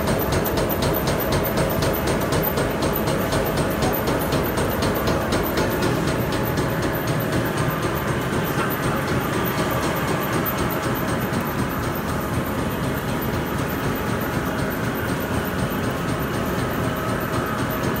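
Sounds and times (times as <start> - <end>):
tyre grinding machine clattering: 0.1 - 18.0.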